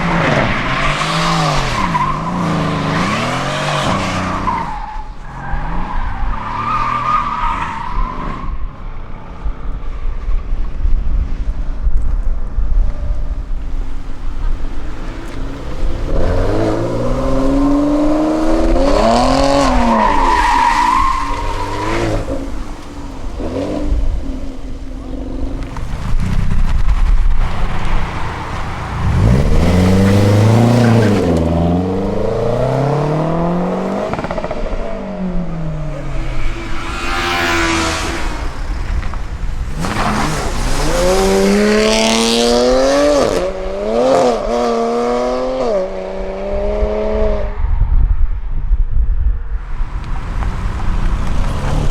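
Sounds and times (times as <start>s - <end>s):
cars revving and accelerating: 0.0s - 8.5s, 13.8s - 47.6s, 49.6s - 51.9s.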